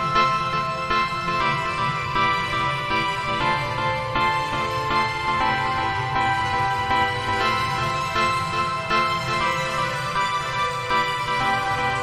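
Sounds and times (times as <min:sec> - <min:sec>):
instrumental music with sustained chords: 0:00.0 - 0:12.0.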